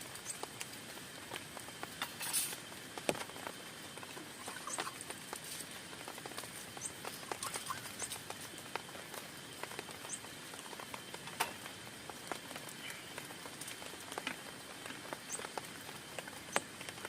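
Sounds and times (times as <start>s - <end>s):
raindrops tapping on a tent: 0.0s - 17.0s
steady hiss of rain: 0.0s - 17.0s.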